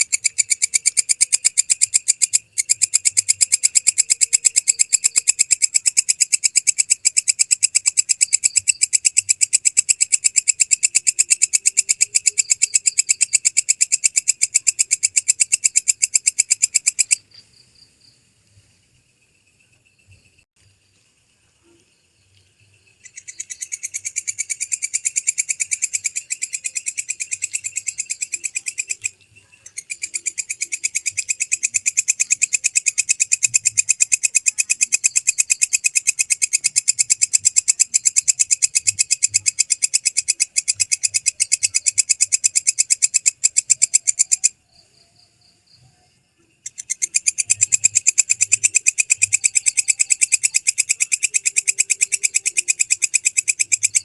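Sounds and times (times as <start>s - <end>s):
katydid trilling: 0.0s - 17.2s, 23.0s - 44.7s, 46.6s - 54.0s.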